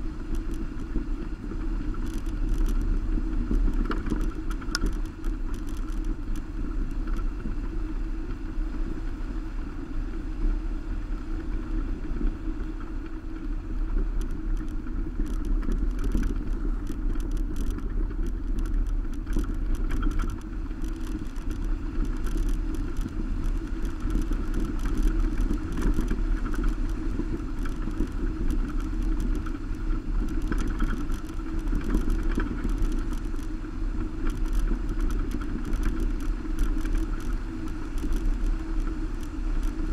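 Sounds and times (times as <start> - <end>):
light ticks and rattles: 0.0 - 9.2, 11.1 - 39.9
car driving on gravel road: 0.0 - 39.9.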